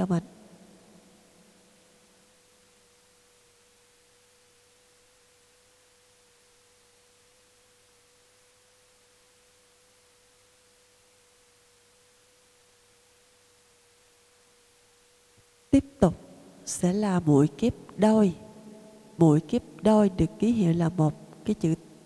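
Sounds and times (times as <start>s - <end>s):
faint steady tone: 0.0s - 22.0s.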